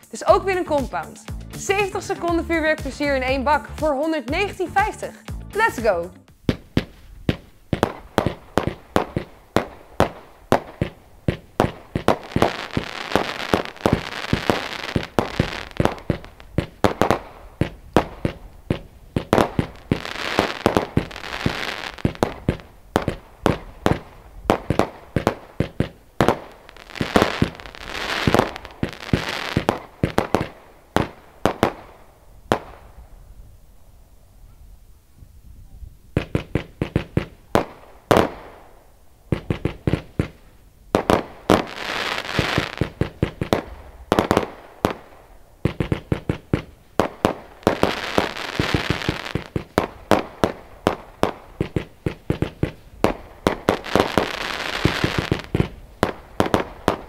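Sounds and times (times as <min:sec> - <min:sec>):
fireworks volley: 0:00.0 - 0:33.7, 0:35.4 - 0:57.0
fireworks hiss and crackle: 0:06.3 - 0:33.7, 0:36.1 - 0:57.0.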